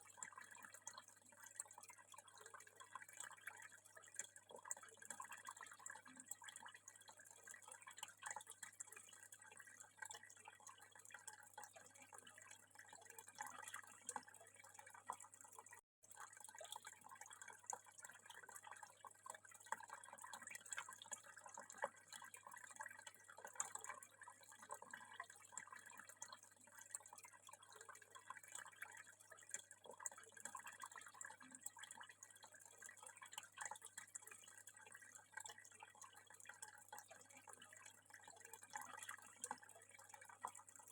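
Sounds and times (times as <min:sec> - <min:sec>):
water trickling and dripping: 0:00.0 - 0:40.9.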